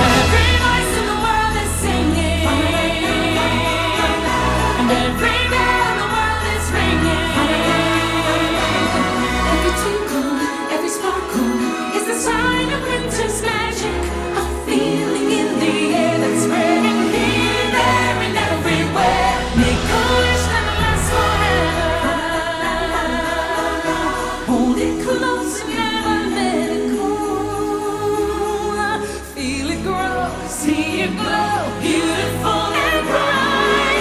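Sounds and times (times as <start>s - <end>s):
choir singing: 0.0s - 34.0s
sleigh bells jingling: 0.0s - 34.0s.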